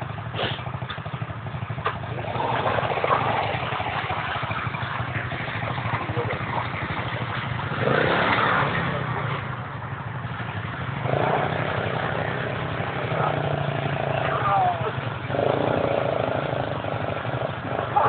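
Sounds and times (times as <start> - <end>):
driving through muddy water: 0.0 - 18.0
quad bike engine running: 0.0 - 18.0.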